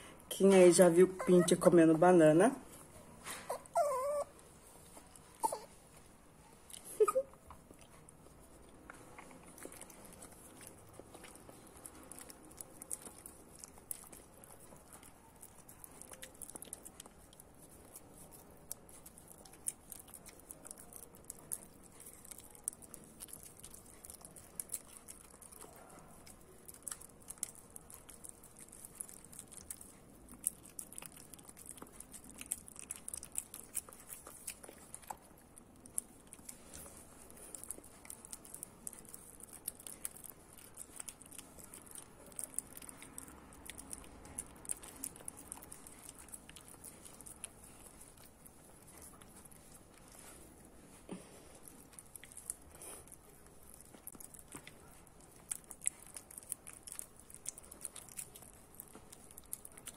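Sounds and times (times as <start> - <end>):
dog licking and chewing: 0.0 - 59.9.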